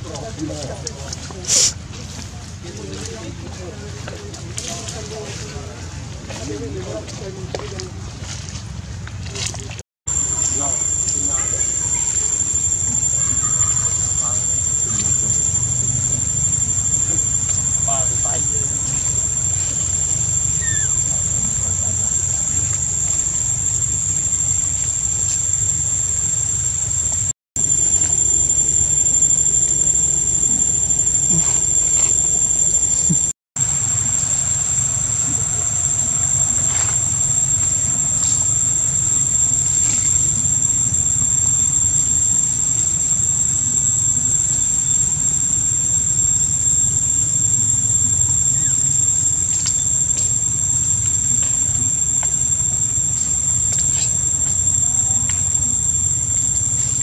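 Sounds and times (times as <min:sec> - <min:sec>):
high-pitched whine: 0:10.1 - 0:57.0.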